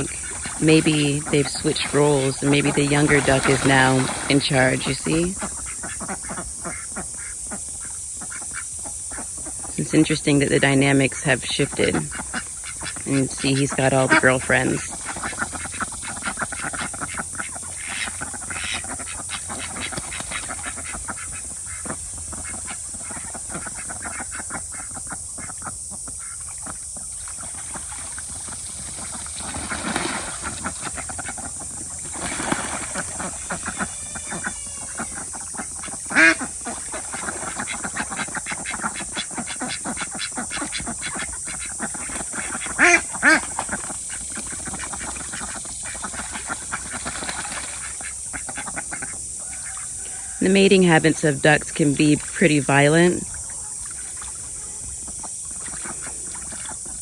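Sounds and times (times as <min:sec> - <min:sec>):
ducks quacking: 0:00.0 - 0:57.0
steady high hiss: 0:00.0 - 0:57.0.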